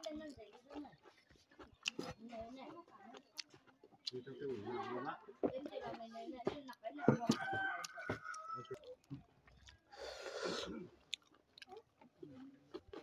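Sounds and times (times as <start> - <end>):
person chewing and lip-smacking: 0.0 - 4.3, 6.7 - 13.0.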